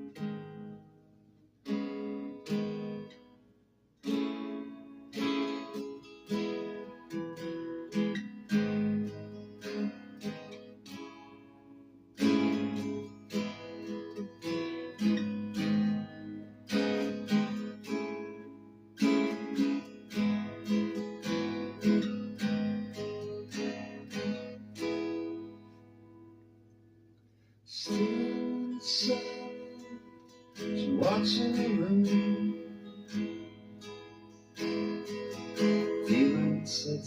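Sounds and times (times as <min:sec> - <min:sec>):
guitar chords strummed: 0:00.0 - 0:37.0.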